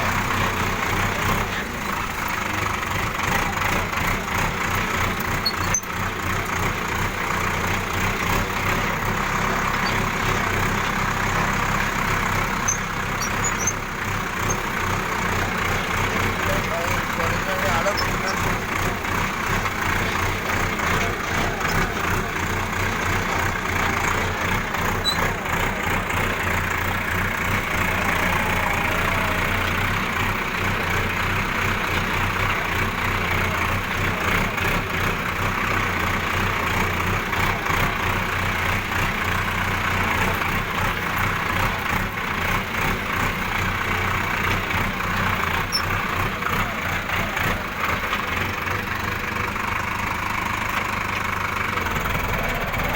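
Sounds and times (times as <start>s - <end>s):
heavy vehicle engine hum: 0.0s - 52.9s.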